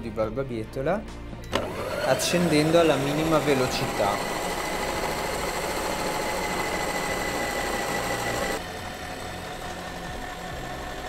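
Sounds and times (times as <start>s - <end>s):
food processor motor humming: 1.5s - 11.0s.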